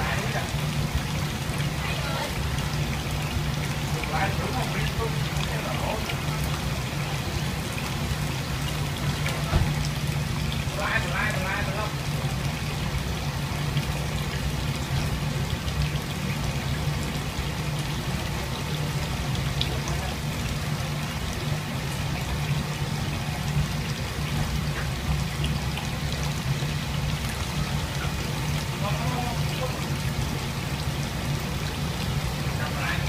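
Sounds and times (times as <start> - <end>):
water bubbling and ticking: 0.0 - 33.0.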